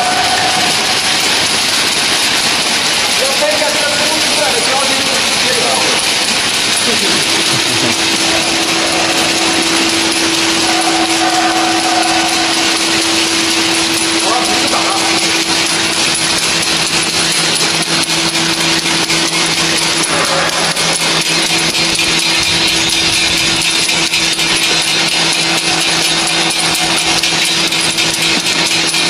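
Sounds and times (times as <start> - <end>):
conveyor hiss and rattle: 0.0 - 29.0
machine motor hum with high whine: 0.0 - 29.0.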